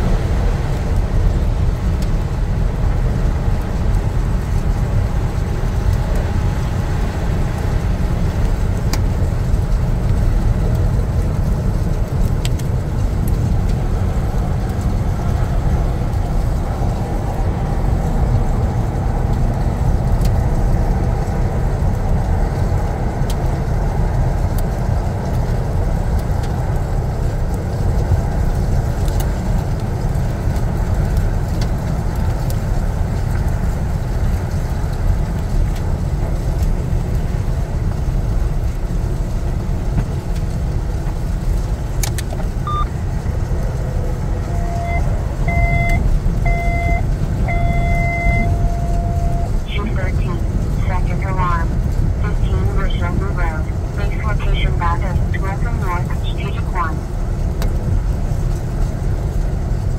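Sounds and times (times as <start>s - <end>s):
vehicle road and wind rumble: 0.0s - 59.9s.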